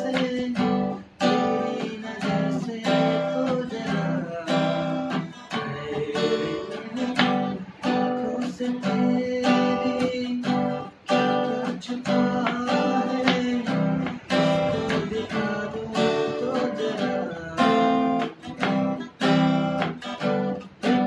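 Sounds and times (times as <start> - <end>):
guitar strumming chords: 0.0 - 21.0.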